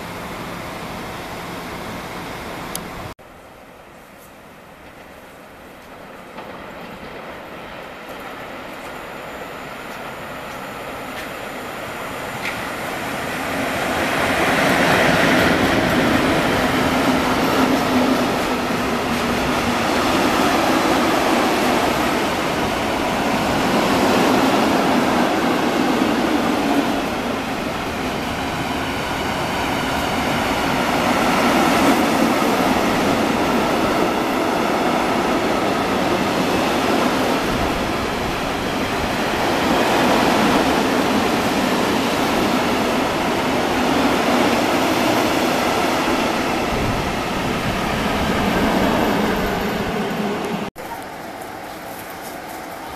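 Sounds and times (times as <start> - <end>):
train wheels rumbling on rails: 4.2 - 52.9.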